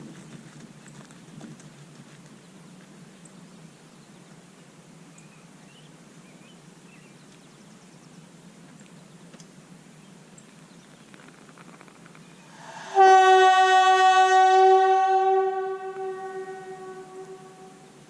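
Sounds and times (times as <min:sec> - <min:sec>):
low hum and hiss: 0:00.0 - 0:13.9, 0:14.6 - 0:18.0.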